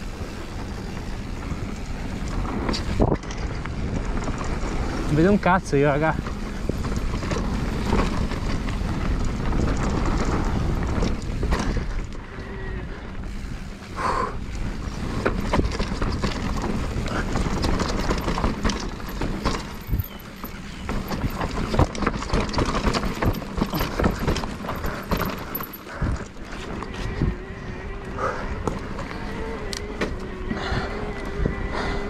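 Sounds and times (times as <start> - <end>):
mountain bike rattling on trail: 0.0 - 32.0
wind on microphone: 0.0 - 32.0.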